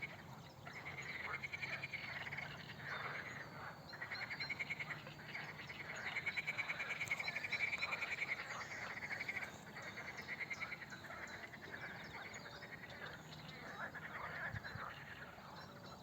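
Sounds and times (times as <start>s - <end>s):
frogs trilling: 0.0s - 16.0s.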